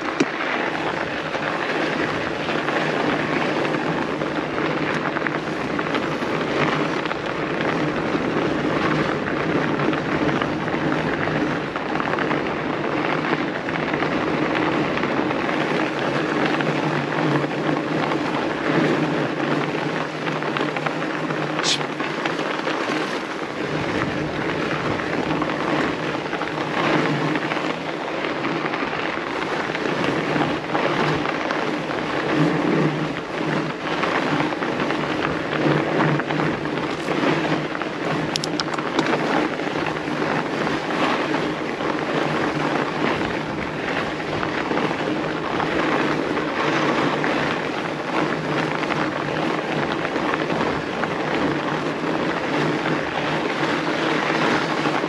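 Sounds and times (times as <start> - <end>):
bike tyres crunching on snow: 0.0 - 55.0.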